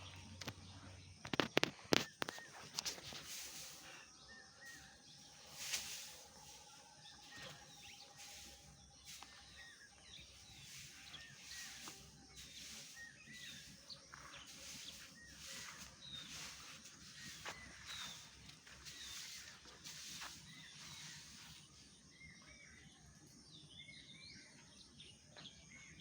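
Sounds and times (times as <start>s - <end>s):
faint outdoor background: 0.0s - 26.0s
short bird chirps: 1.3s - 22.8s.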